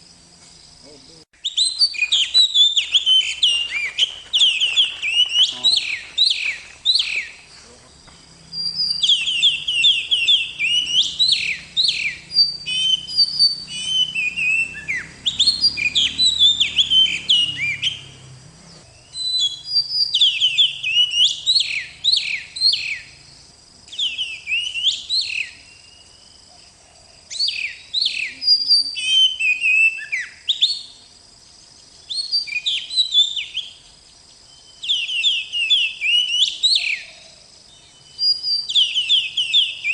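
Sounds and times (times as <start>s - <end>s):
bird singing whistles and trills: 1.4s - 23.2s, 23.9s - 26.5s, 27.3s - 31.0s, 31.8s - 39.9s.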